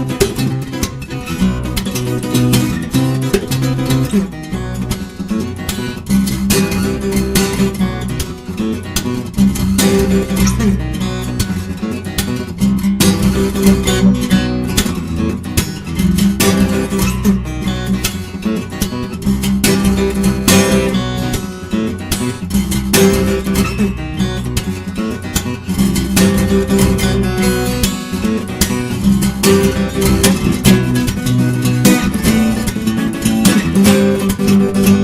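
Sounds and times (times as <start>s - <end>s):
fingerstyle acoustic guitar: 0.0s - 35.0s.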